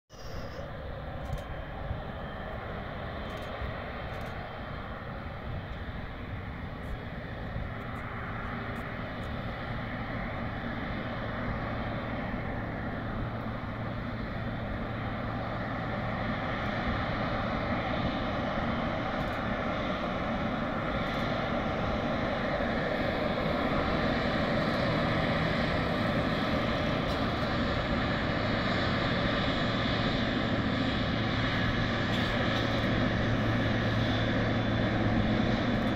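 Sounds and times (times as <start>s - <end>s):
jet engines at taxi power: 0.1s - 35.9s.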